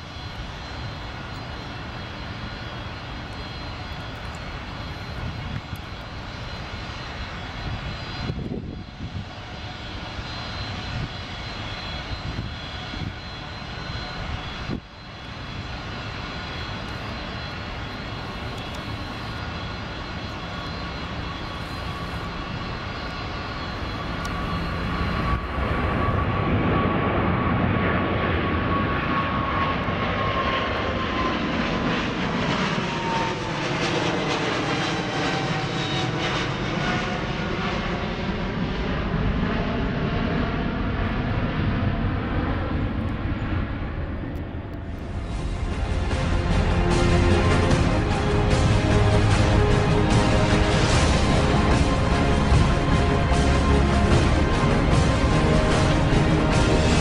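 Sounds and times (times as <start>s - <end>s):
jet engines at takeoff: 0.0s - 57.0s.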